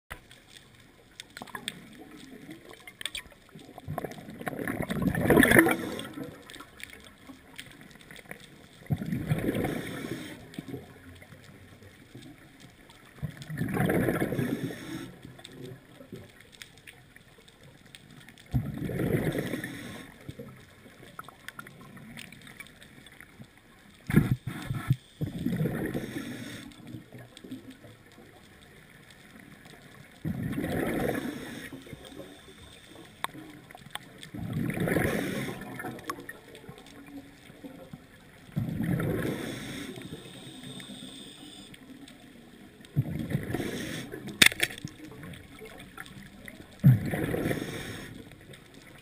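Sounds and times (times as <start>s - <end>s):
underwater exhaled bubbles: 0.1s - 49.0s.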